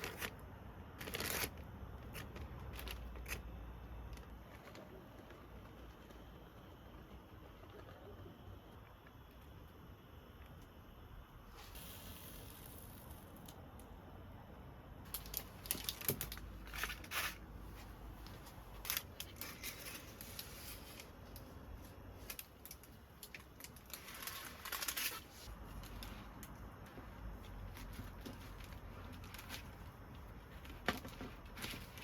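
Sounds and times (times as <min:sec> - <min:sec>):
rustling and crinkling: 0:00.0 - 0:09.6, 0:15.1 - 0:32.0.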